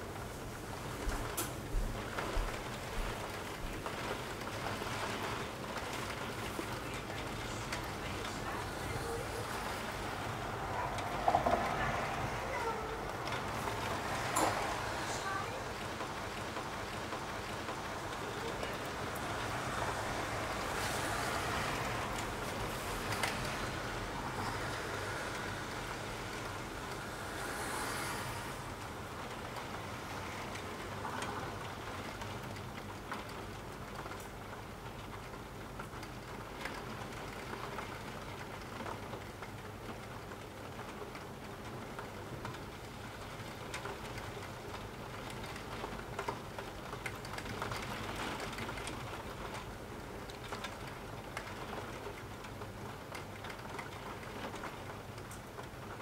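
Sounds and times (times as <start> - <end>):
steady rain hissing: 0.0 - 56.0
raindrops ticking: 0.1 - 56.0.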